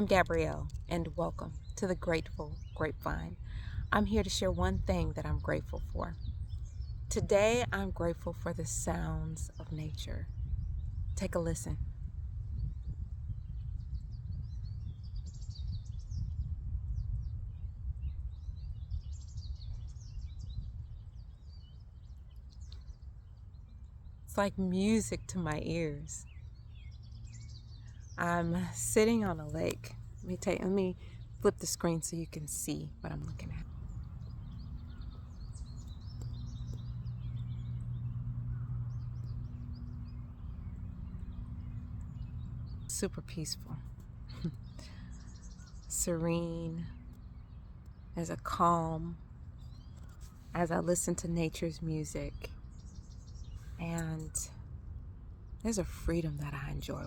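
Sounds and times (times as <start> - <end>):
low steady hum: 0.0 - 57.0
songbirds chirping: 0.0 - 57.0
steady low rumble: 0.0 - 57.0.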